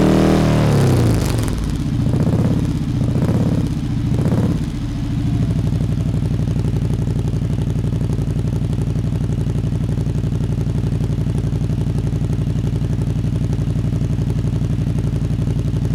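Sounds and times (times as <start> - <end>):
motorcycle idling: 0.0 - 15.9.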